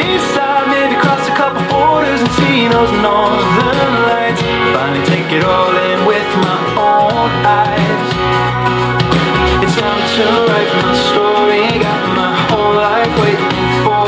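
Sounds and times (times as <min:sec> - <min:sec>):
person singing: 0:00.0 - 0:14.0
pop-country song: 0:00.0 - 0:14.0.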